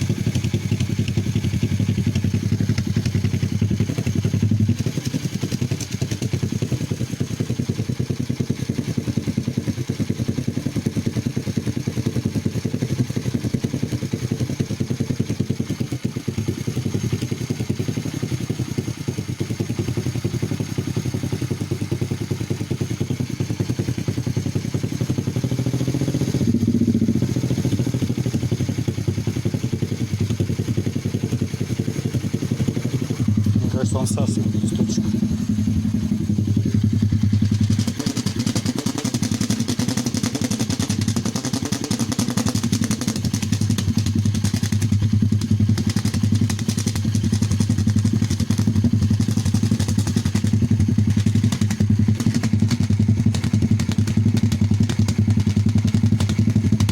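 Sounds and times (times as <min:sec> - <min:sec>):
motorbike engine idling: 0:00.0 - 0:56.9.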